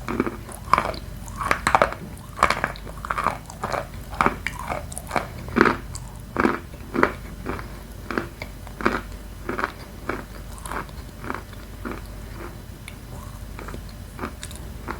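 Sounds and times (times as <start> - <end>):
crunchy chewing: 0.0 - 14.9.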